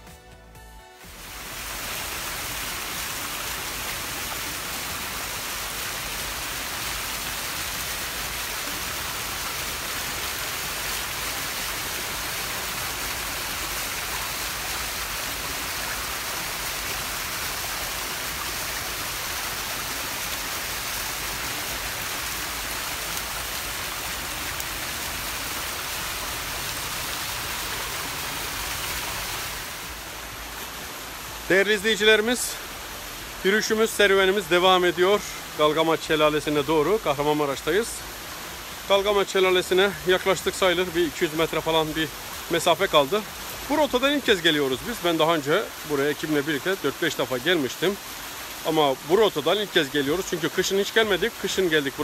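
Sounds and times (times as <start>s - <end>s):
stream rushing over rocks: 1.1s - 52.0s.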